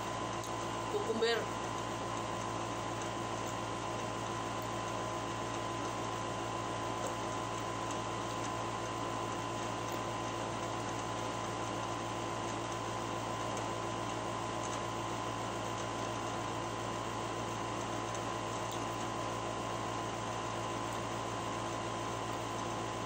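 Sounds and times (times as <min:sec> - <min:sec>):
room hum and hiss: 0:00.0 - 0:23.0.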